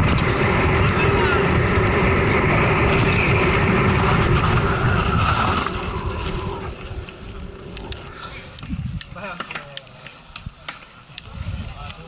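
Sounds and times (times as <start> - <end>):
mountain bike rolling and rattling: 0.0 - 12.0.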